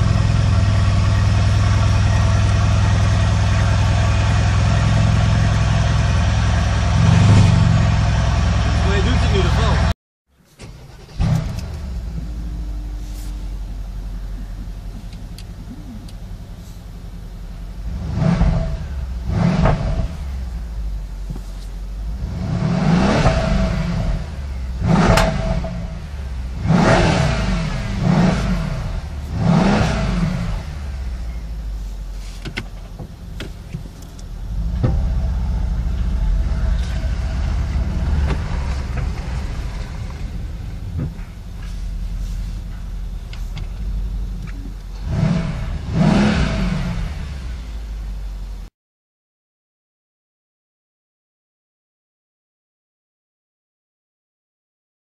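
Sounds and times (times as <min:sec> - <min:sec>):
car engine idling and revving: 0:00.0 - 0:48.7.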